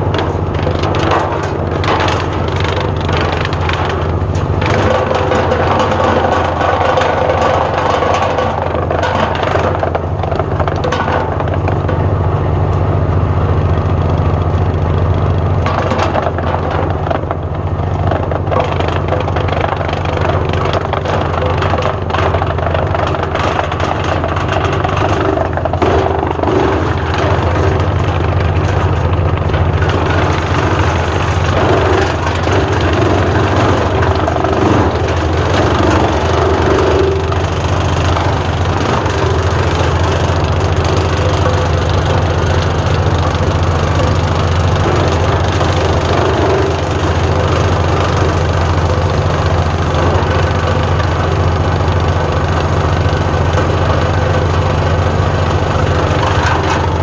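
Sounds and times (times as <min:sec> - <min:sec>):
diesel tractor engine running: 0:00.0 - 0:57.0
wood chipper running: 0:00.0 - 0:57.0.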